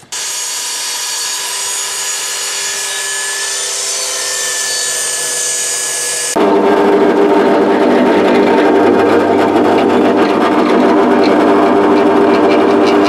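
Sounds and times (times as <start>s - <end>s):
table saw cutting wood: 0.0s - 13.0s.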